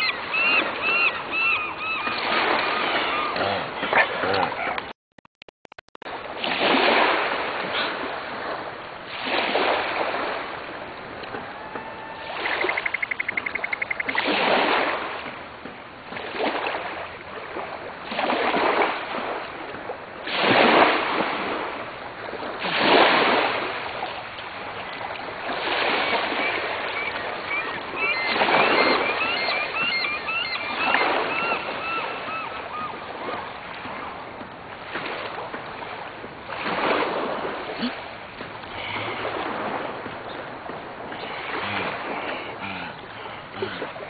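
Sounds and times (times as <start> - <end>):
small waves washing on shore: 0.0 - 4.9, 6.1 - 44.0.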